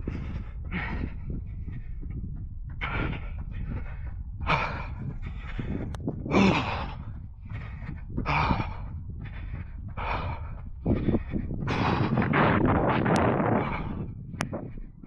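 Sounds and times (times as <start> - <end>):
runner breathing heavily: 0.0 - 15.0
steady low rumble: 0.0 - 15.0.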